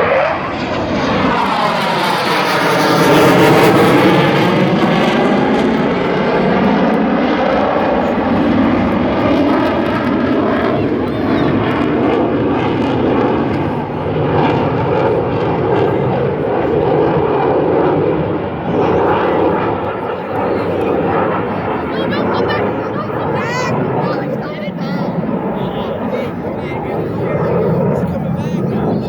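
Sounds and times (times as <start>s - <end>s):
fighter jet roaring overhead: 0.0s - 29.0s.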